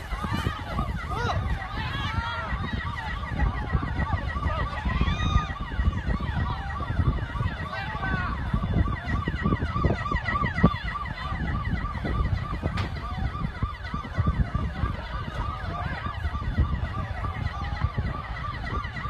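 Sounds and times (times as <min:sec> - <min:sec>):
emergency sirens yelping: 0:00.0 - 0:19.0.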